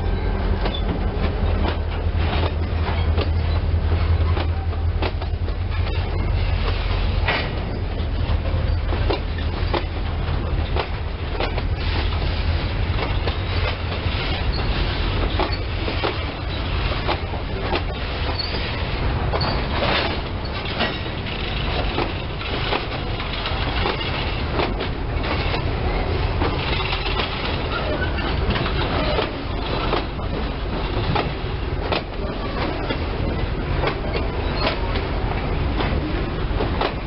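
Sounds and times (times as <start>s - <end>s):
train wheels rumbling: 0.0s - 37.0s.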